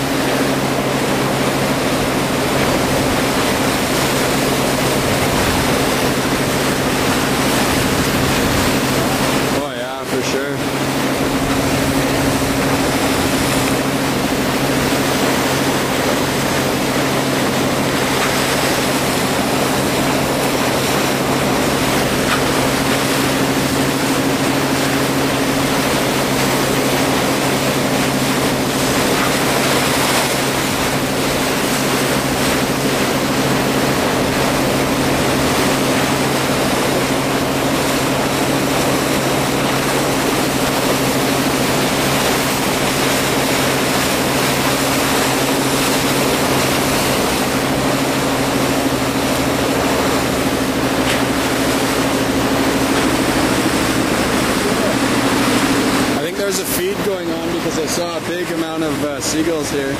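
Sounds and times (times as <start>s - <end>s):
boat engine humming: 0.0s - 59.9s
water rushing along hull: 0.0s - 59.9s.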